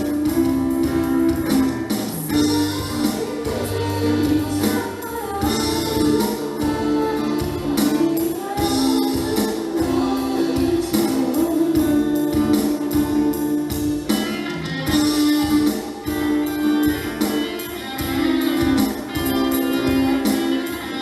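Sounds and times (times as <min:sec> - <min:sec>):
school band playing: 0:00.0 - 0:21.0.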